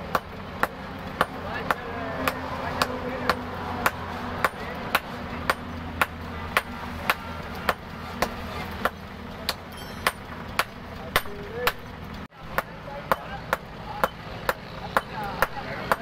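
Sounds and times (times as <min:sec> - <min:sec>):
sledgehammers striking steel on anvil: 0:00.0 - 0:16.0.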